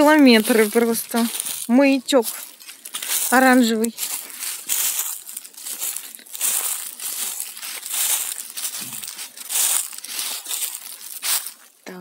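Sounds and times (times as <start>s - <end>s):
footsteps crunching dry leaves: 0.0s - 11.8s.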